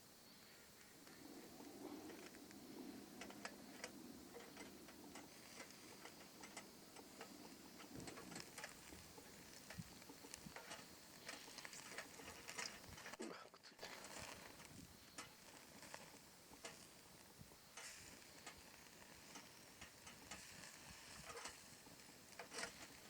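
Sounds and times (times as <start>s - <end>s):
small fire crackling: 0.0s - 23.0s.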